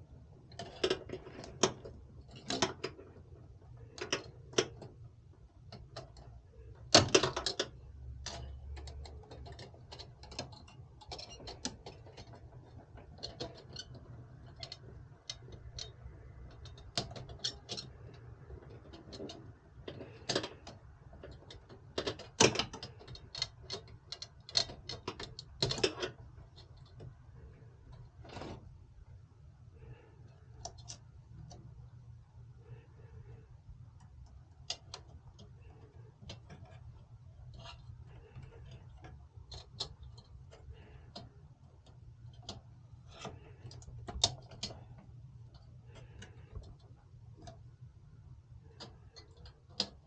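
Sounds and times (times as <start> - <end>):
low steady hum: 0.0 - 50.0
hardware handling clicks and rattles: 0.1 - 50.0.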